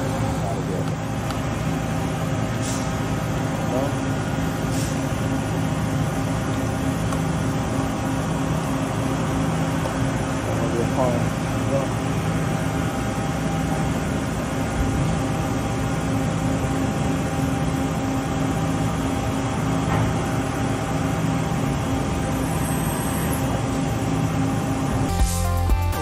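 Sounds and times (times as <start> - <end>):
machine hum with held tones: 0.0 - 26.0.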